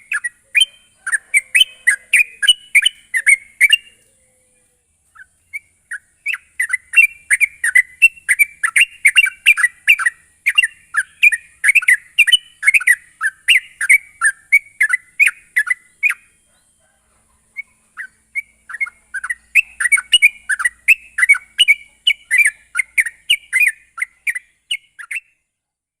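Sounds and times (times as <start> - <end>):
bird chirping song: 0.0 - 26.0.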